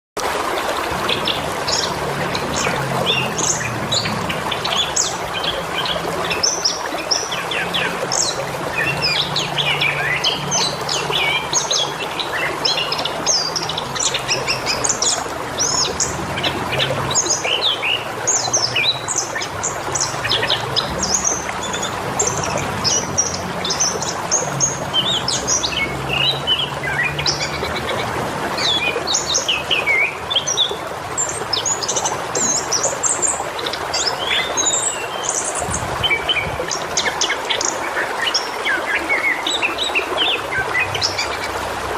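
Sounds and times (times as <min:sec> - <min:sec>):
birds chirping and trilling: 0:00.9 - 0:41.7.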